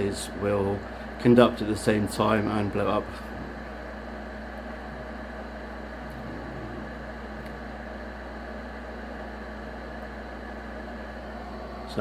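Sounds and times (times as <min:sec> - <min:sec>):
amplifier whirring: 0:00.0 - 0:12.0
low mains hum: 0:00.0 - 0:12.0.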